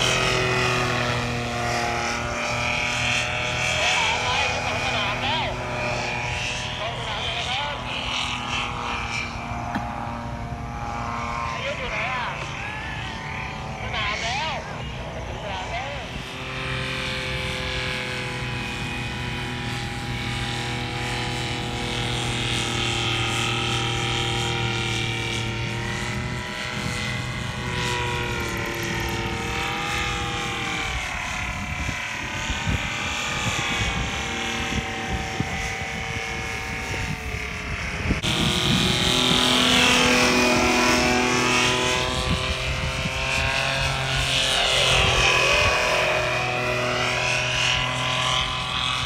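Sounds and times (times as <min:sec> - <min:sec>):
paramotor engine drone overhead: 0:00.0 - 0:49.0.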